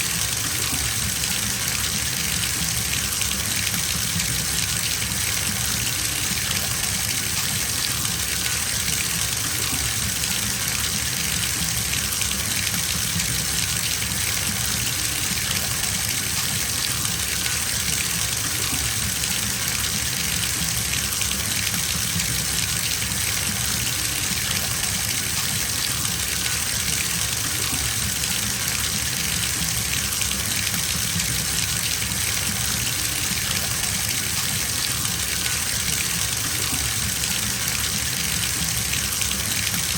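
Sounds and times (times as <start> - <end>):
water gushing into bathtub: 0.0 - 39.9.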